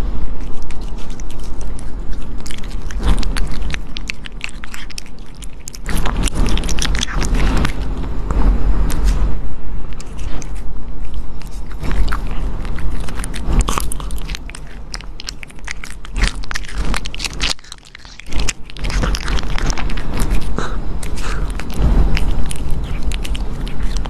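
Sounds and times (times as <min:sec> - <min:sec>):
pet crunching crisp food: 0:00.0 - 0:24.0.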